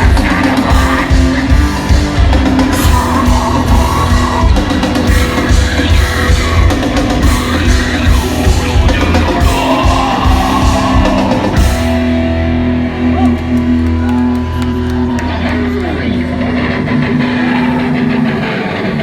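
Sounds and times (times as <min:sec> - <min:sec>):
drum kit: 0:00.0 - 0:15.6
distorted electric guitars: 0:00.0 - 0:19.0.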